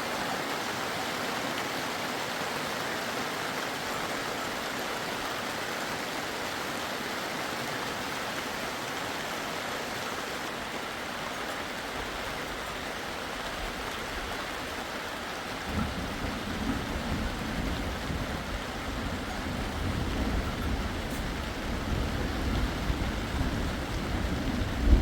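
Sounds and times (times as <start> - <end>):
heavy rain hissing: 0.0 - 25.0.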